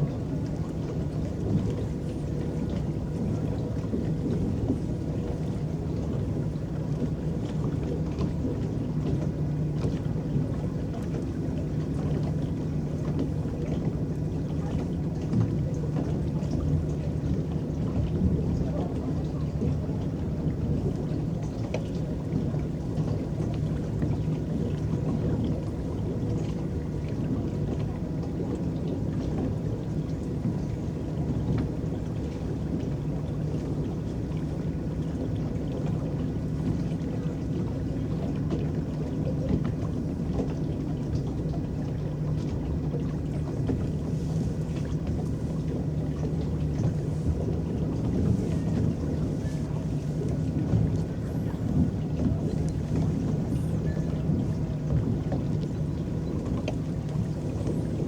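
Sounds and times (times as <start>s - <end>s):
water churning and lapping at hull: 0.0s - 58.0s.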